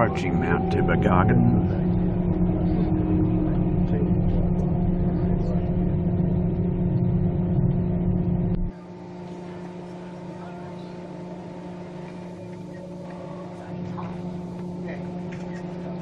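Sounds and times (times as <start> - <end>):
train car hum: 0.0 - 16.0
train car rumble: 0.0 - 16.0.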